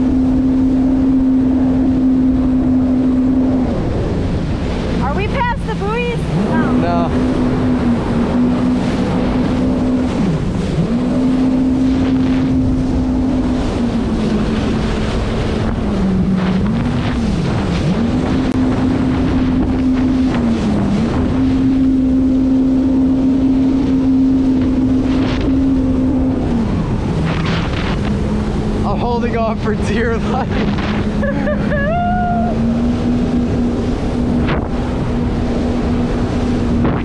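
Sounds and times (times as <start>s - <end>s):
jet ski engine whine: 0.0s - 37.0s
wind on microphone: 0.0s - 37.0s.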